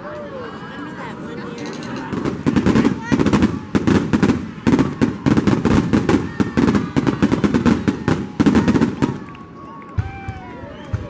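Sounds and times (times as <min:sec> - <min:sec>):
fireworks bursting: 0:01.9 - 0:11.0.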